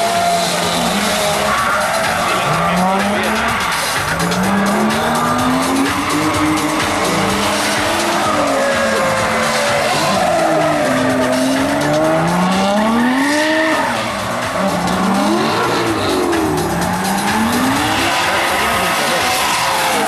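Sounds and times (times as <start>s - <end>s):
car engine revving: 0.0s - 20.0s
tyres screeching: 0.0s - 20.0s.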